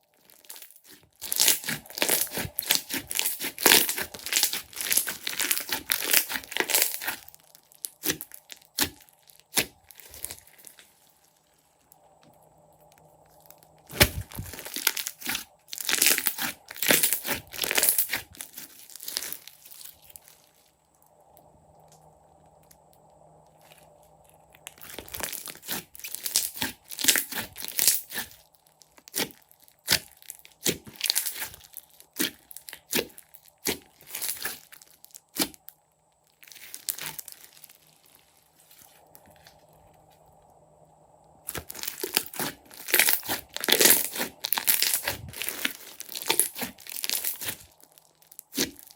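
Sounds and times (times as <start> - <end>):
slime squeezed by hand crackling: 0.2 - 11.4, 13.2 - 20.8, 23.6 - 35.7, 36.3 - 39.7, 41.4 - 48.9.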